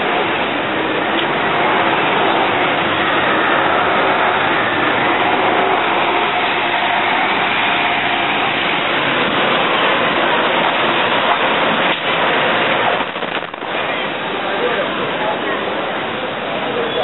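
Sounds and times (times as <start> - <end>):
elevated train rumbling: 0.0 - 17.0.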